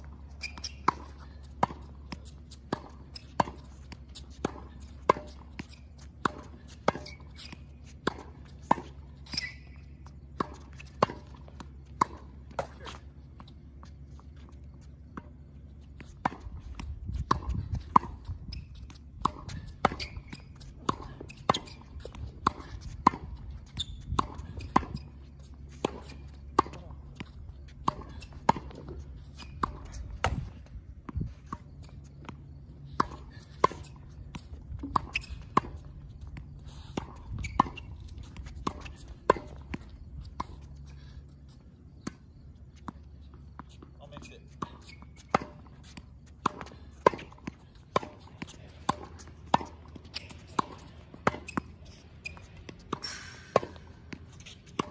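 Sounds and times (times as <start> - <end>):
tennis balls struck by racket: 0.0 - 54.9.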